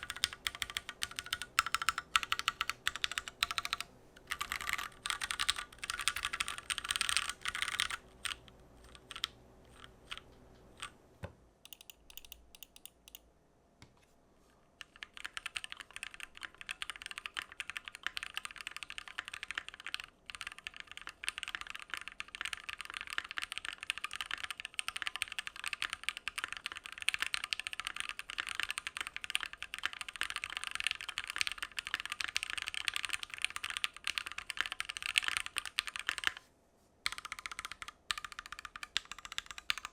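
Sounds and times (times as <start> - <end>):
mechanical keyboard typing: 0.0 - 11.0, 11.7 - 13.2, 14.8 - 36.4, 37.1 - 39.9.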